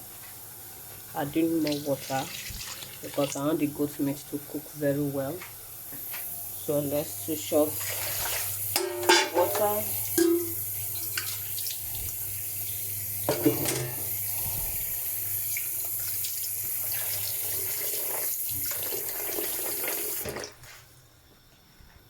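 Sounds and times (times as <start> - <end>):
kitchen tap running: 0.0 - 20.8.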